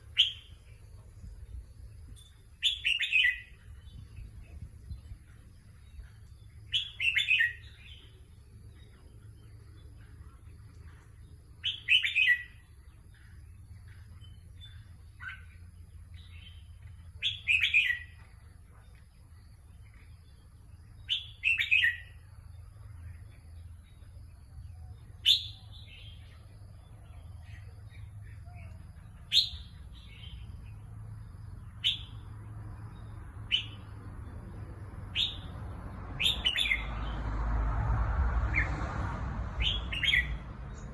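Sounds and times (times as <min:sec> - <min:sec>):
bird warbling song: 0:00.0 - 0:30.9, 0:36.2 - 0:37.2, 0:39.6 - 0:40.9.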